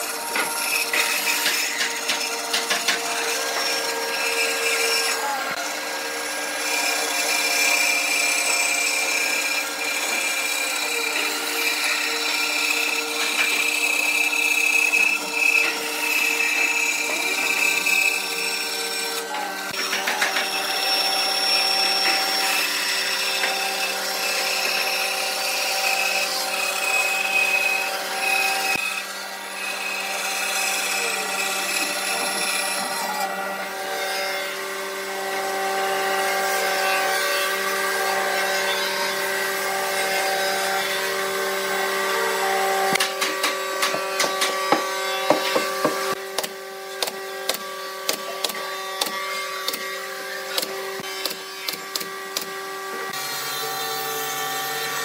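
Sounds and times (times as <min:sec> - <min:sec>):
bandsaw cutting wood: 0:00.0 - 0:55.0.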